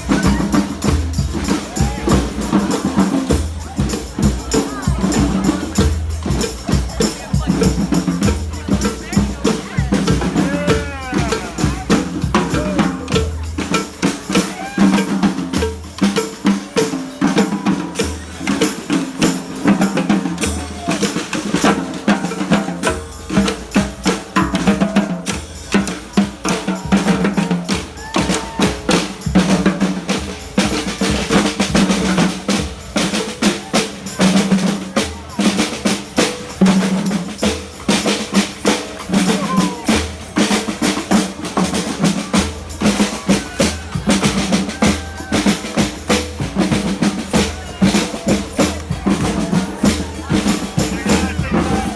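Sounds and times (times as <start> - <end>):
bass drum and snare beat: 0.0 - 51.9
brass and percussion street band: 0.0 - 51.9.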